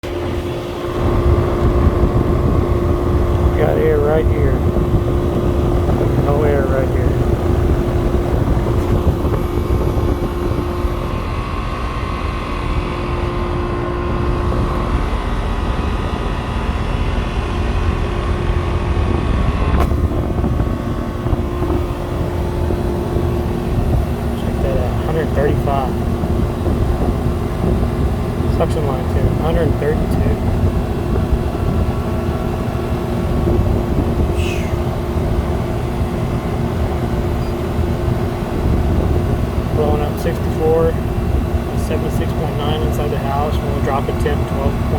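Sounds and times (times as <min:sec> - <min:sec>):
air conditioner unit humming: 0:00.0 - 0:44.9.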